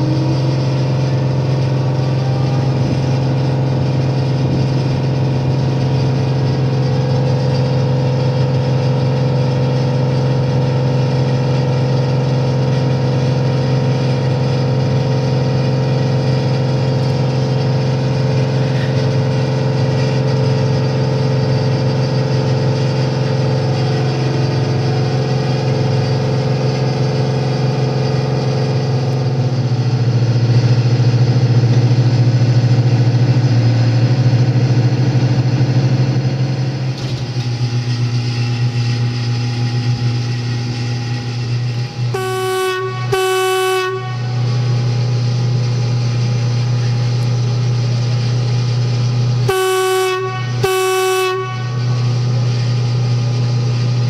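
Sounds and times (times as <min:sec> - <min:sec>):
locomotive compressor and blowers hum: 0:00.0 - 0:54.0.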